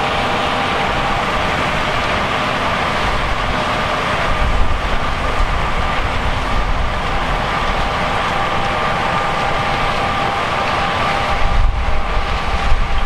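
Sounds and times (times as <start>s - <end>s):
harvest machinery diesel drone: 0.0s - 13.0s
high whine: 0.0s - 13.0s.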